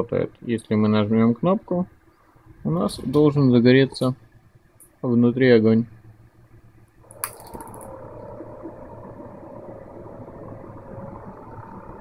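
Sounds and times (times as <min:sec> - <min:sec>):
boiler fans and pump humming: 0:00.0 - 0:12.0
faint constant whine: 0:00.0 - 0:12.0.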